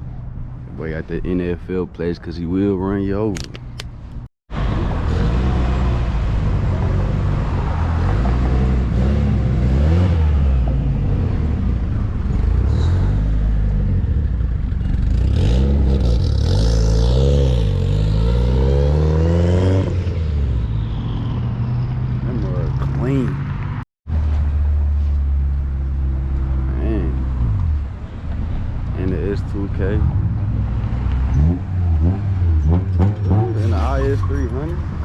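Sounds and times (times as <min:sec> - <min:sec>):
car engines revving: 0:04.5 - 0:35.0.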